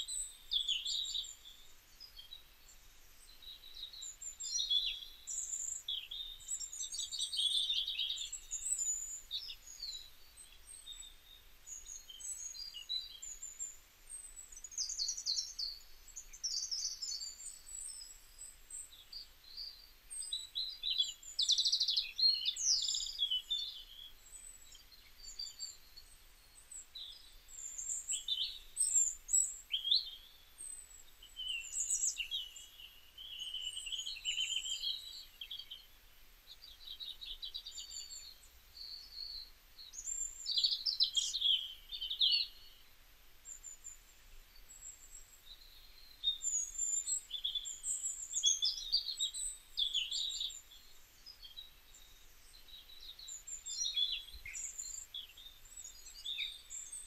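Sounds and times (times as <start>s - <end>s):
birds chirping and trilling: 2.8s - 57.0s.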